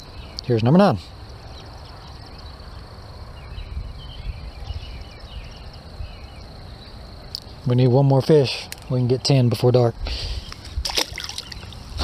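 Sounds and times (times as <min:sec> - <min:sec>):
low rumble of wind or water: 0:00.0 - 0:08.4, 0:09.0 - 0:12.0.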